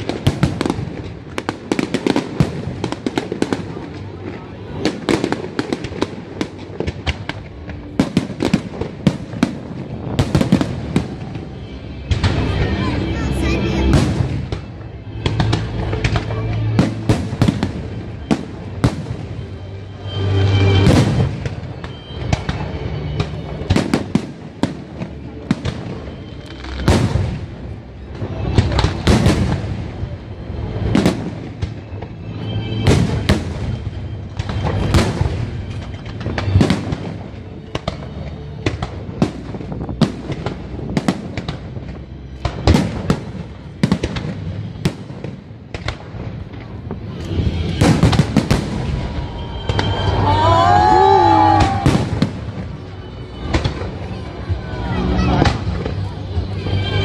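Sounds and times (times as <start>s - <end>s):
fireworks bursting with bangs: 0.0s - 57.0s
fireworks crackling: 0.0s - 57.0s.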